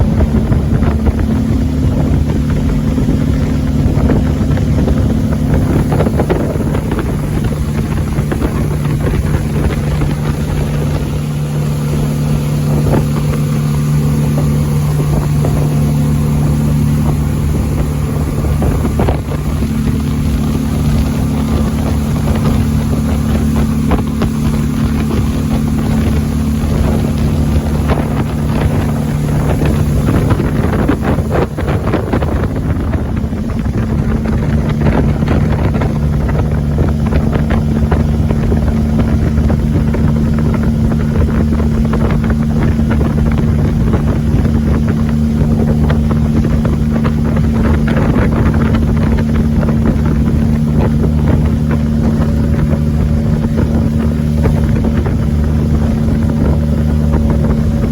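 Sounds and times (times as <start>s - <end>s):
boat engine droning: 0.0s - 57.9s
wind buffeting microphone: 0.0s - 57.9s.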